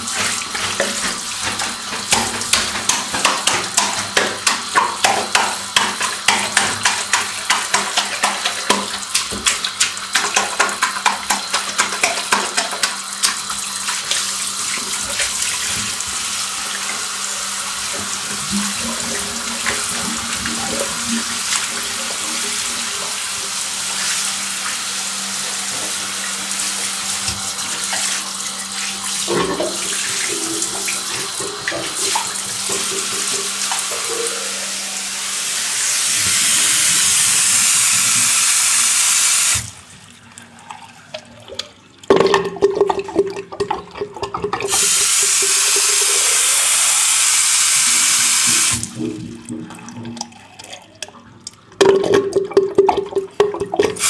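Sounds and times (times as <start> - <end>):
tap water running into sink: 0.0 - 54.0.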